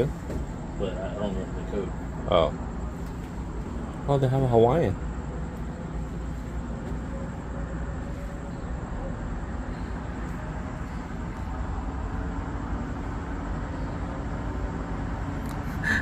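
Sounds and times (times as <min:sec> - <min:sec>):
outdoor background rumble and hiss: 0:00.0 - 0:16.0.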